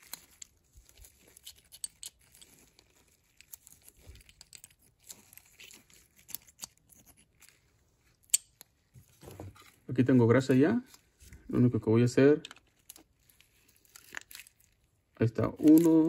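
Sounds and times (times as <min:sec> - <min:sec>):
gloves rustling: 0:00.0 - 0:16.0.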